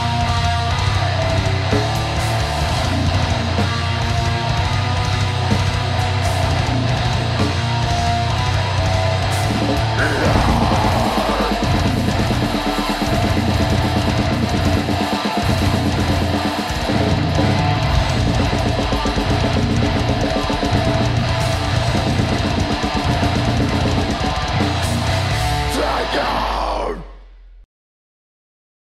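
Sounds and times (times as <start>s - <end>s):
fast pounding drum kit: 0.0s - 26.9s
distorted electric guitars: 0.0s - 27.6s.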